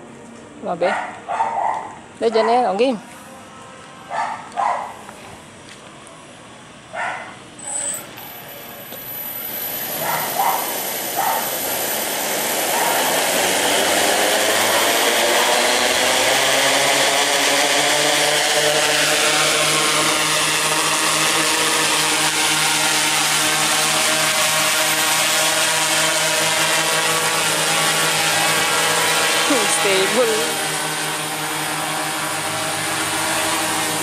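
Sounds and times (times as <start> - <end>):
quadcopter motors droning: 4.2 - 34.0.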